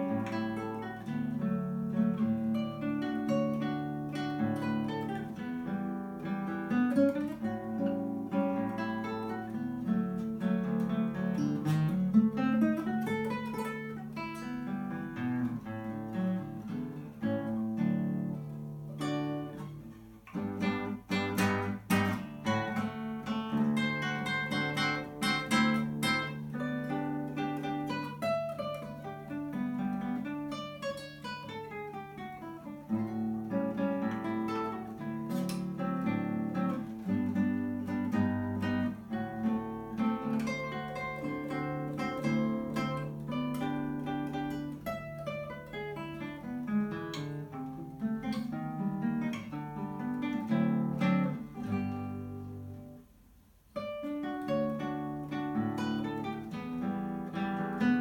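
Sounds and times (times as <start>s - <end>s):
fingerstyle classical guitar: 0.0s - 58.0s.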